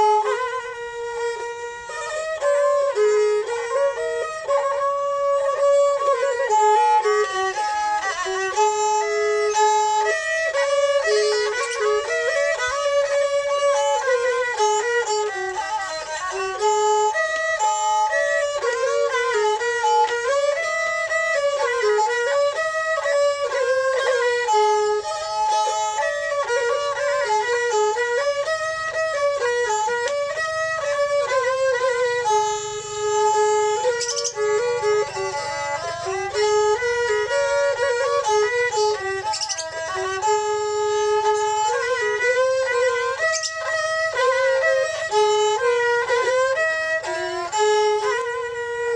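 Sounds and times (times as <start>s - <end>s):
fiddles bowing a melody: 0.0s - 48.9s.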